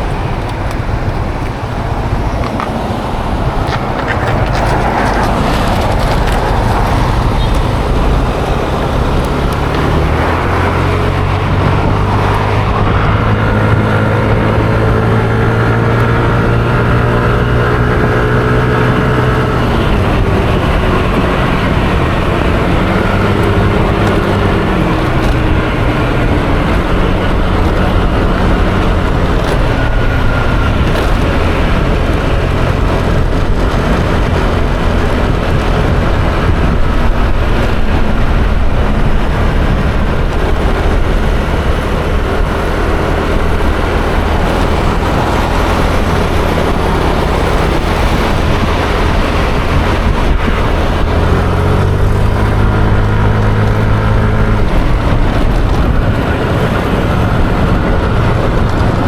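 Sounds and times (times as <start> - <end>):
scooter engine running: 0.0 - 59.0
wind and road rushing: 0.0 - 59.0.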